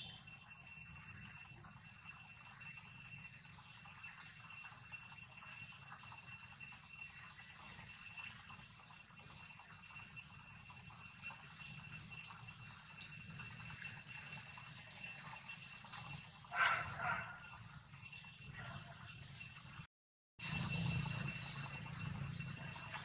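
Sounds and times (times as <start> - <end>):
steady high-pitched whine: 0.0 - 23.0.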